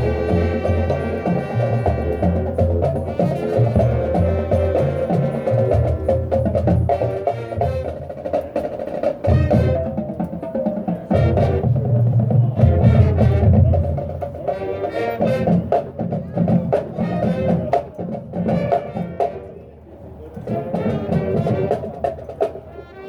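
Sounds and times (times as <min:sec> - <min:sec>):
brass chords: 0:00.0 - 0:10.3, 0:10.9 - 0:19.6, 0:20.5 - 0:23.0
sharp percussion strikes: 0:00.0 - 0:19.5.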